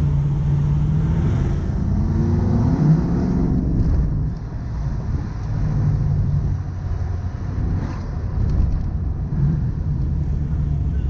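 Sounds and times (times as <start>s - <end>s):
car engine and exhaust driving: 0.0s - 11.0s.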